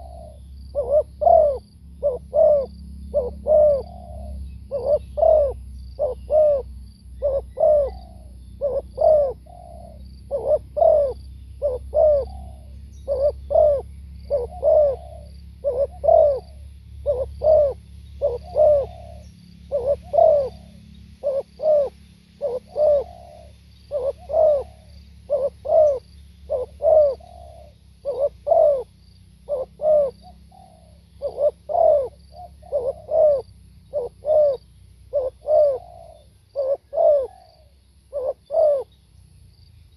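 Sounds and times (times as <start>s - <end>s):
dove cooing: 0.0s - 39.0s.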